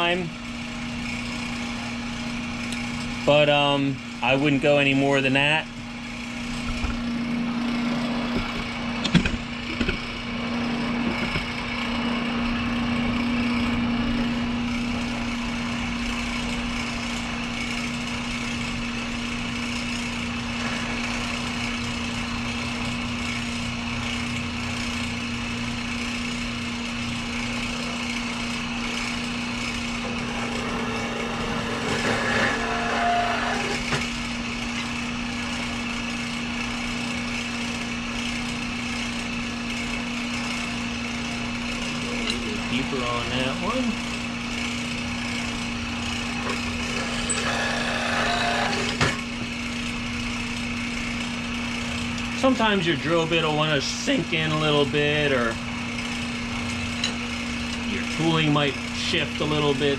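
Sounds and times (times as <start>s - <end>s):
shop machinery humming: 0.0s - 59.9s.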